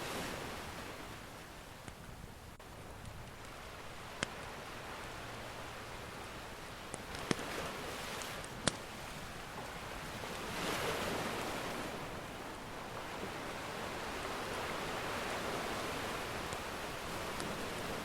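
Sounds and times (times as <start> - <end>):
ocean surf washing: 0.0 - 18.0
wood fire crackle: 1.4 - 11.8, 12.6 - 18.0.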